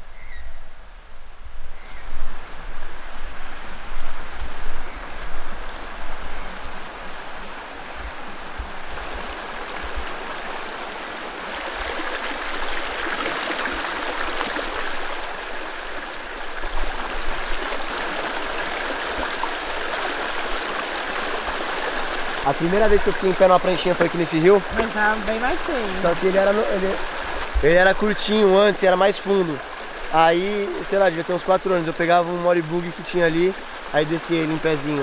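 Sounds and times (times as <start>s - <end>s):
river rushing over stones: 3.4s - 35.0s.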